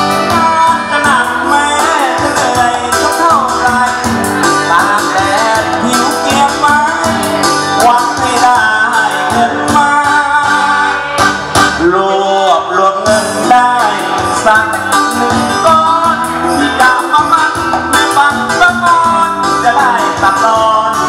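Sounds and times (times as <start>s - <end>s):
band music with guitar and beat: 0.0s - 21.0s
man singing into microphone: 0.0s - 21.0s.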